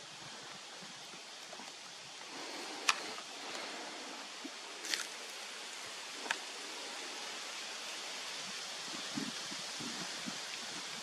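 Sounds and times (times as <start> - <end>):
forest ambience hiss: 0.0 - 11.0.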